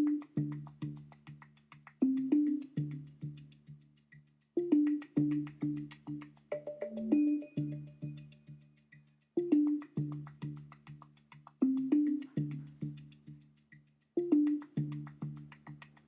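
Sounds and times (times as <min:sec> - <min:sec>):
instrumental music with struck notes: 0:00.0 - 0:16.0.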